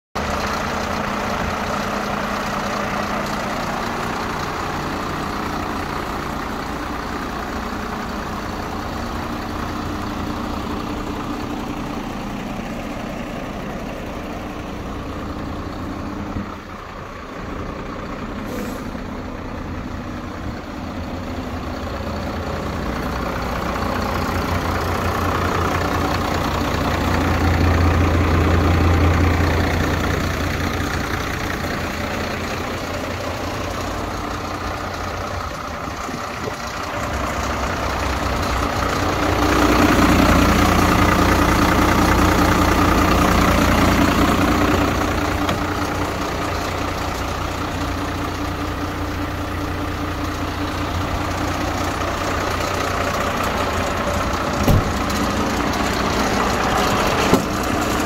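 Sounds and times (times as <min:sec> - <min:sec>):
diesel truck engine idling: 0:00.2 - 0:58.0.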